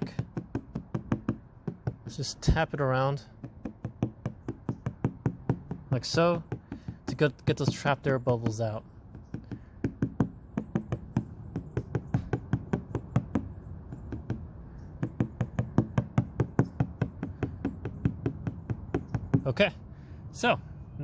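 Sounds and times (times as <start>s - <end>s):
rapid tapping on windshield glass: 0.0s - 19.8s.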